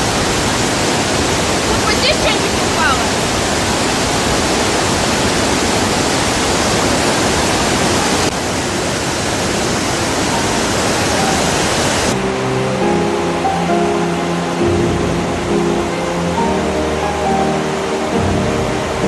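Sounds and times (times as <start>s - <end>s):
torrent of rushing water: 0.0s - 19.0s.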